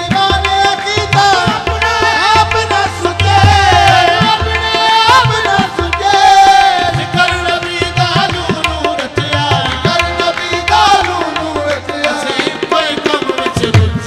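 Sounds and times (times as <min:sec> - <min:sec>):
harmoniums playing: 0:00.0 - 0:14.0
tabla rhythm: 0:00.0 - 0:14.0.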